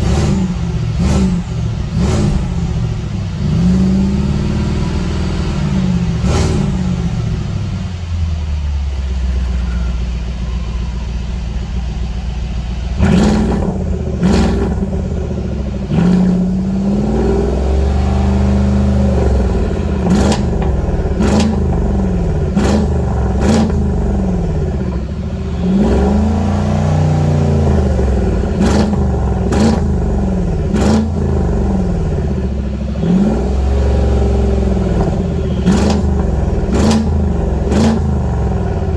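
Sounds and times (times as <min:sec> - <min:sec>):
car engine revving: 0:00.0 - 0:38.9
exhaust cracks popping: 0:00.0 - 0:38.9.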